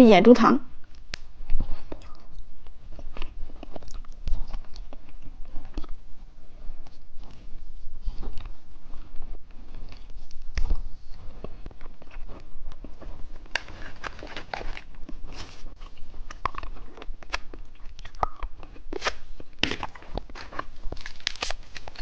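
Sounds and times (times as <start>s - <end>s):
chewing and crunching candy: 0.8s - 22.0s.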